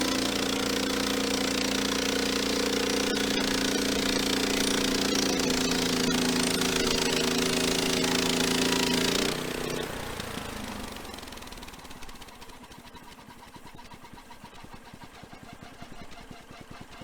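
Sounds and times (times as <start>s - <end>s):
band saw blade running: 0.0s - 15.3s
sawmill engine running: 0.0s - 16.2s.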